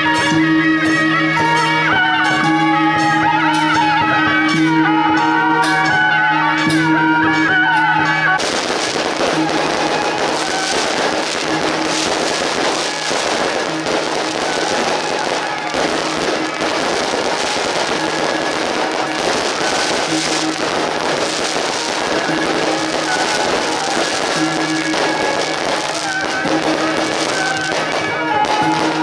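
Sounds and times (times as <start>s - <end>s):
firecrackers crackling and popping: 0.0s - 29.0s
music playing: 0.0s - 29.0s.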